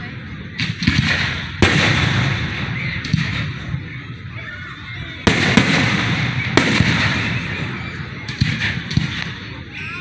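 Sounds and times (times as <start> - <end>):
fireworks bursting with crackling: 0.6 - 4.0, 5.2 - 9.9.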